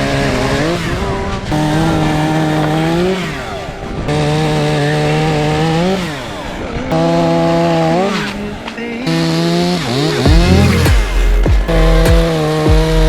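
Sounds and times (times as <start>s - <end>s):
chainsaw revving: 0.0s - 13.0s.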